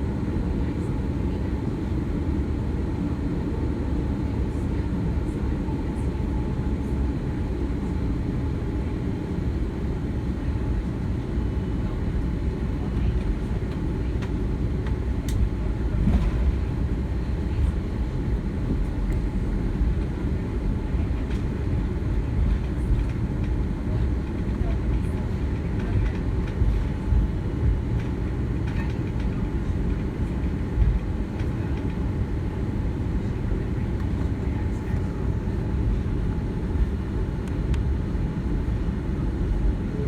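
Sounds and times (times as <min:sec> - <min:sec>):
low airplane cabin rumble: 0:00.0 - 0:40.0.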